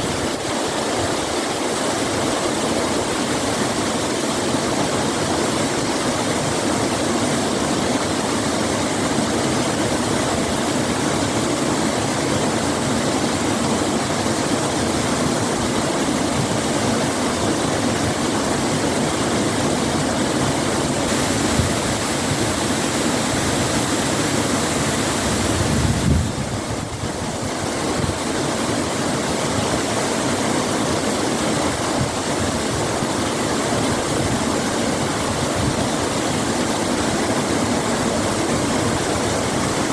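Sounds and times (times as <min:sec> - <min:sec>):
rushing water of waterfall: 0:00.0 - 0:39.9.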